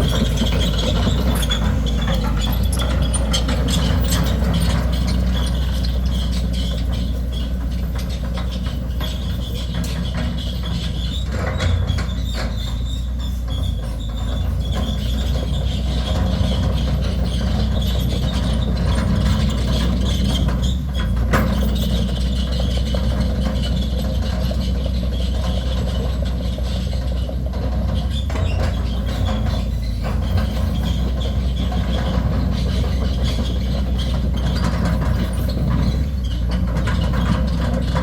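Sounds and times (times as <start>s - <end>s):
excavator diesel engine droning: 0.0s - 38.0s.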